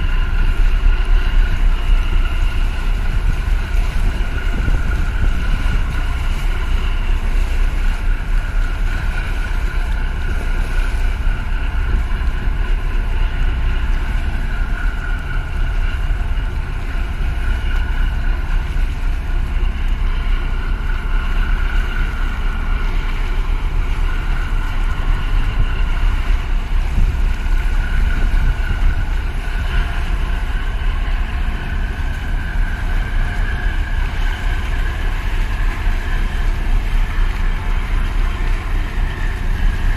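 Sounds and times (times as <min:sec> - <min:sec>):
ship engine low rumble: 0:00.0 - 0:39.9
steady high whine: 0:00.0 - 0:39.9
wind buffeting microphone: 0:00.0 - 0:39.9.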